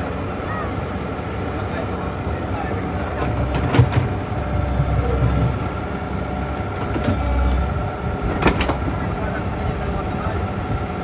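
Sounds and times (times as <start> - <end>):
backhoe engine running: 0.0 - 11.0.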